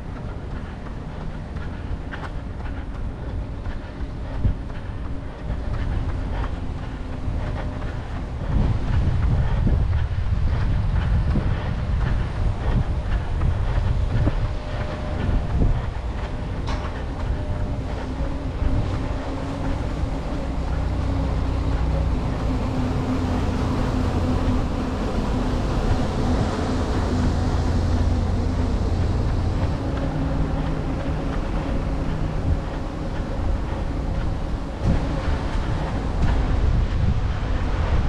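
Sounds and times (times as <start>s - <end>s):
low mechanical hum: 0.0s - 38.0s
rushing noise: 0.0s - 38.0s.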